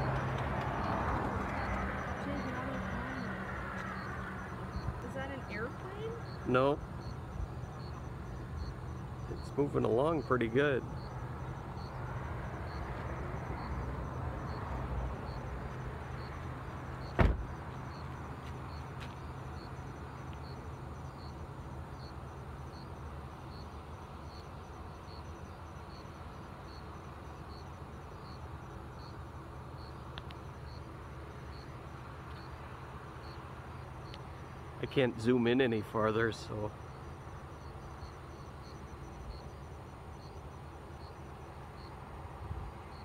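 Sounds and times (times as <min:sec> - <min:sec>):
engine humming: 0:00.0 - 0:43.0.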